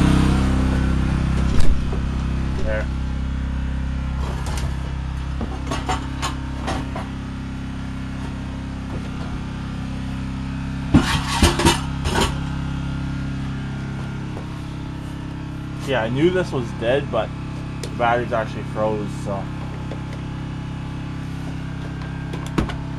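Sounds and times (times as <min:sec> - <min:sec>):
generator engine running: 0:00.0 - 0:22.9.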